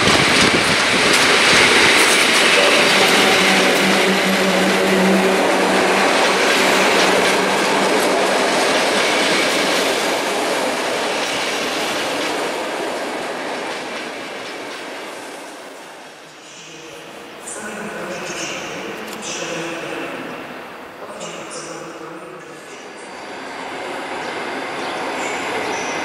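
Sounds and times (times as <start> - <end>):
train coaches rolling on rails: 0.0 - 26.0.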